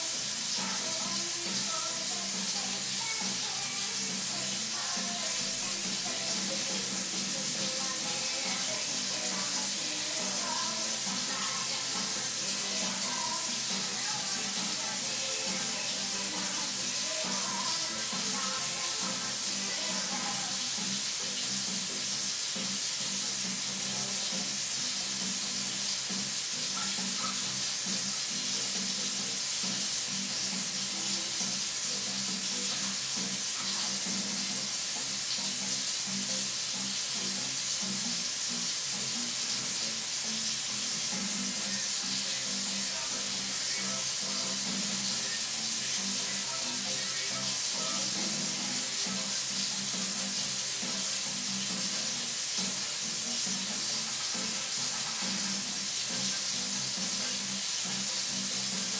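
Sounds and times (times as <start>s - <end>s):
faint music: 0.0s - 58.9s
steady hiss: 0.0s - 58.9s.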